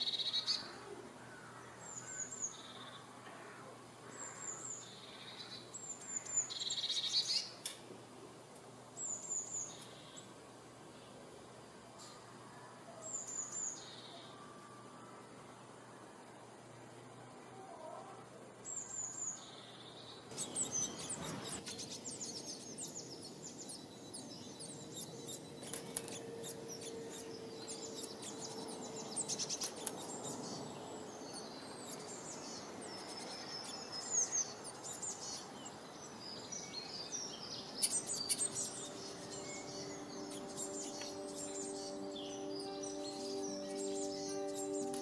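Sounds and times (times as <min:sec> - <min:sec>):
soft sustained musical tones: 0:00.0 - 0:45.0
songbirds chirping and trilling: 0:00.0 - 0:45.0.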